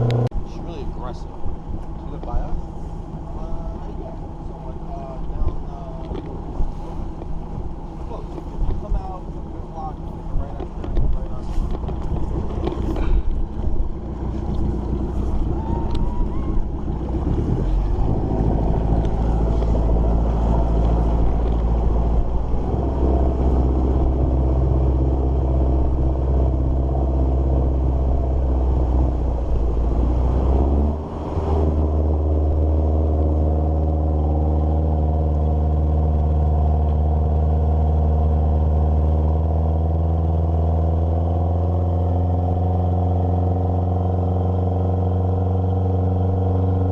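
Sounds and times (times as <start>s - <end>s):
engine running: 0.0s - 46.9s.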